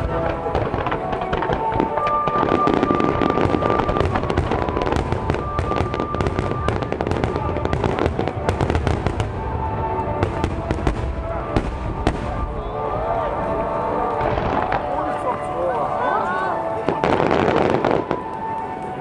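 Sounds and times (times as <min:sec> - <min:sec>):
fireworks crackling bangs: 0:00.0 - 0:15.6, 0:16.6 - 0:19.0
music with long held notes: 0:00.0 - 0:19.0.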